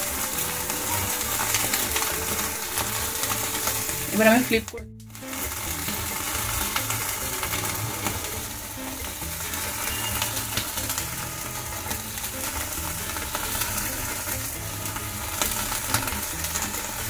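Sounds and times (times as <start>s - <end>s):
fish sizzling on a griddle: 0.0s - 17.0s.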